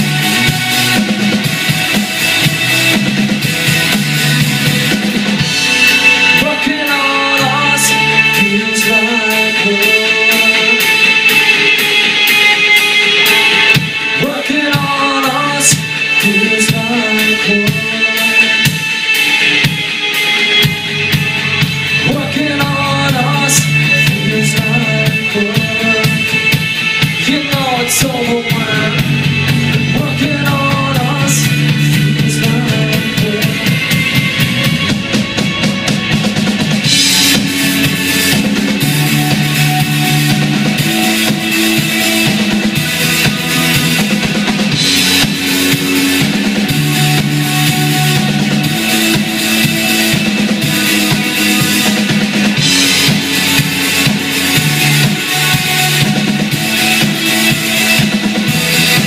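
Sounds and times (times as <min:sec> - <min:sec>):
bass guitar: 0:00.0 - 0:59.0
drum kit: 0:00.0 - 0:59.0
electric guitar lead: 0:00.0 - 0:59.0.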